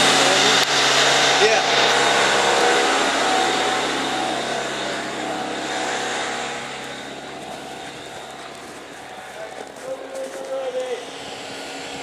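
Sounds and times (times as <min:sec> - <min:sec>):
electric air compressor running: 0:00.0 - 0:12.0.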